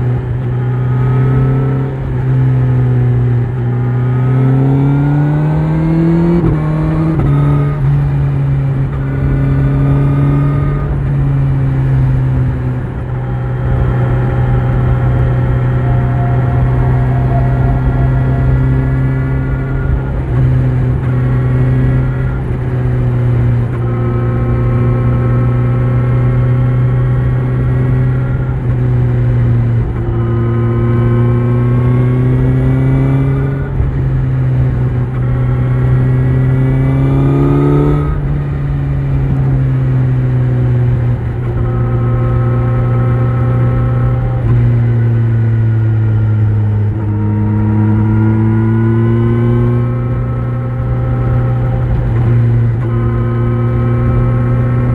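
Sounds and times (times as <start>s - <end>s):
low rumble of wind: 0.0s - 54.9s
motorcycle engine revving: 0.0s - 54.9s.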